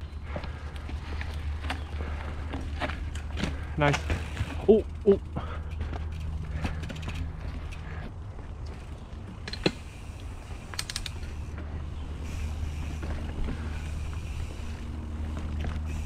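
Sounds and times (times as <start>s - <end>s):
bike tyres rumbling on dirt: 0.0s - 16.0s
bike parts rattling: 0.5s - 16.0s.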